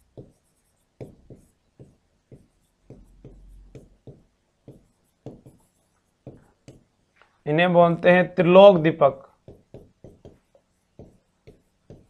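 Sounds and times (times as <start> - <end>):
marker writing on whiteboard: 0.0 - 7.1, 9.2 - 12.0.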